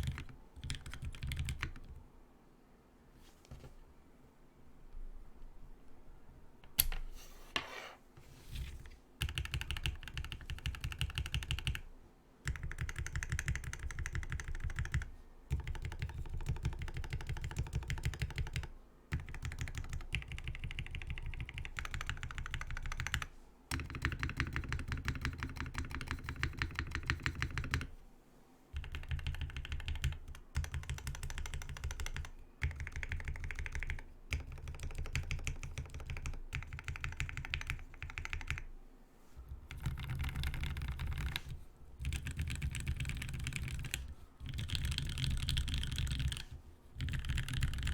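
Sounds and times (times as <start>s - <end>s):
fast typing on mechanical keyboard: 0.0s - 2.0s, 9.2s - 27.9s, 28.8s - 38.7s, 39.6s - 47.9s.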